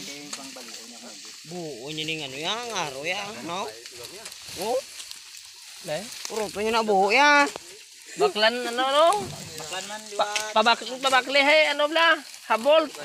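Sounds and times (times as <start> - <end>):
crackling hiss: 0.0 - 13.0.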